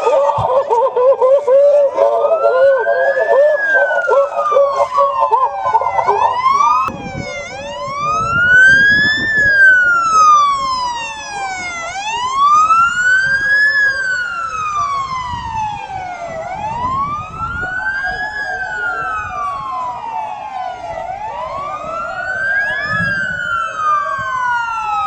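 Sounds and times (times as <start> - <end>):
emergency siren wailing: 0.0 - 25.0
fast wavering siren: 0.0 - 25.0.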